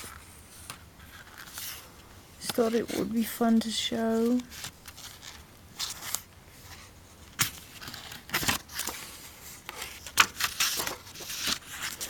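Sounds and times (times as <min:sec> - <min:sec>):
notebook pages rustling: 0:00.0 - 0:03.3, 0:04.0 - 0:12.0.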